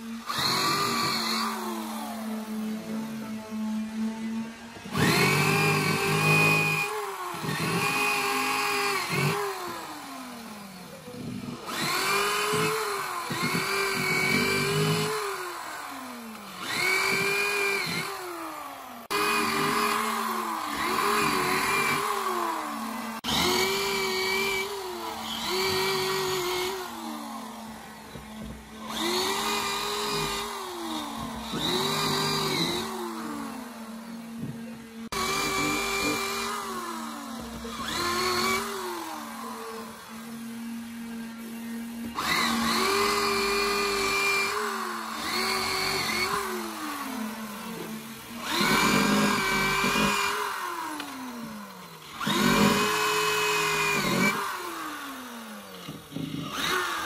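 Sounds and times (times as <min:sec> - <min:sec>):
power tool motor whining: 0:00.0 - 0:57.0.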